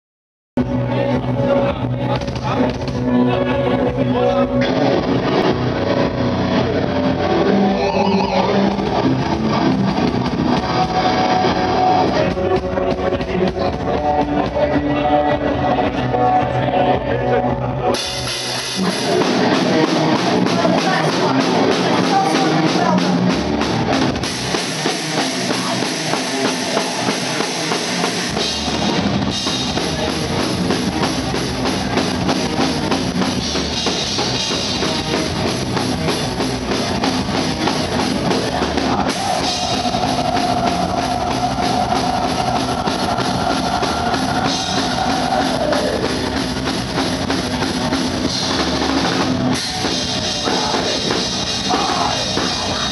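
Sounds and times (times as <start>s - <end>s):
metal band playing live: 0.6s - 52.9s.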